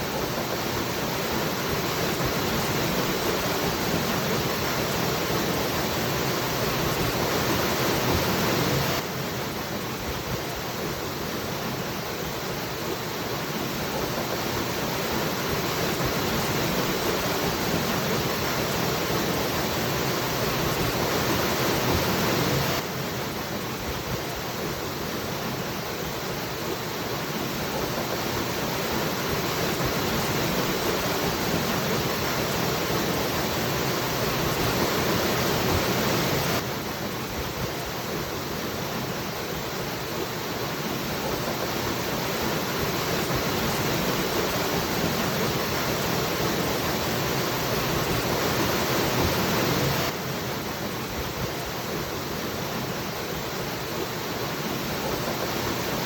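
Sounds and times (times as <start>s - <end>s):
waterfall rushing: 10.8s - 56.0s.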